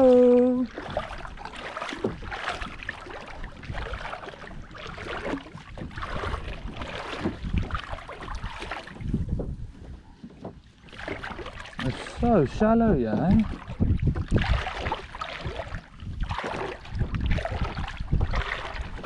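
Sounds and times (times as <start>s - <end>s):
water lapping against plastic hull: 0.0s - 19.0s.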